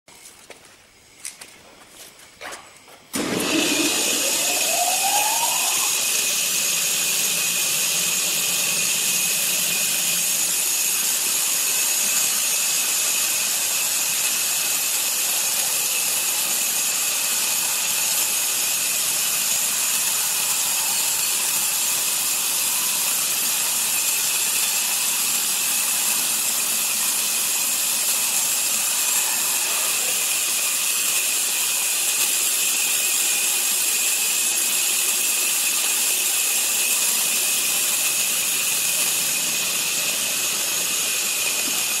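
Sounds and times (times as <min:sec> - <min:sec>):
band saw blade sawing timber: 0:03.5 - 0:42.0.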